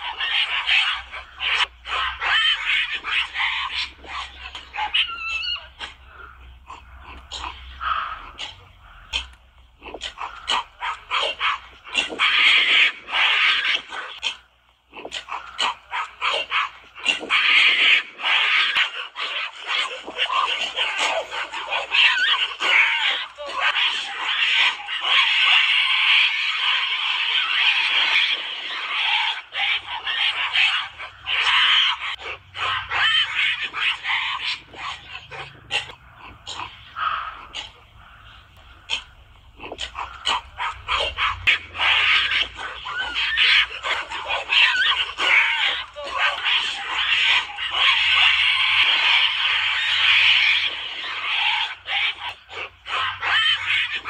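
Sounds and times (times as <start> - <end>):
animal barks and screeching calls: 0.0 - 54.0.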